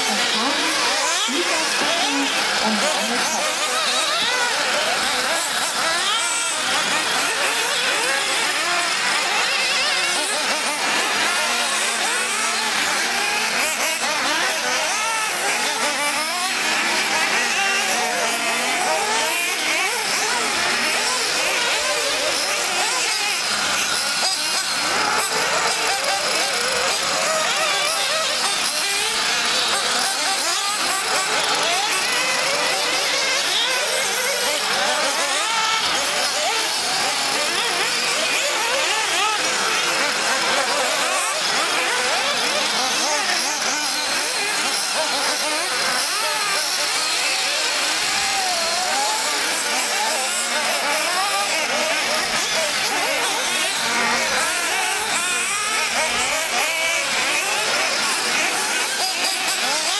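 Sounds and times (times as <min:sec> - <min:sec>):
rc car engines whining: 0:00.0 - 0:59.9.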